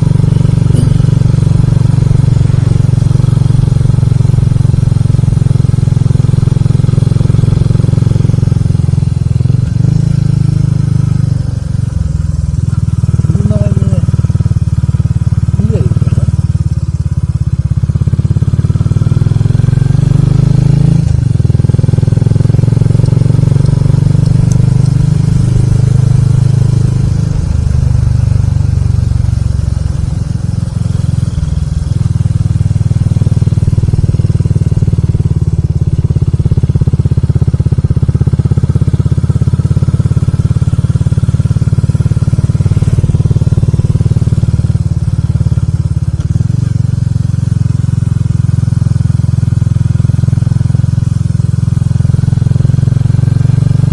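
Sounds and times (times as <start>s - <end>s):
motorcycle engine: 0.0s - 53.9s.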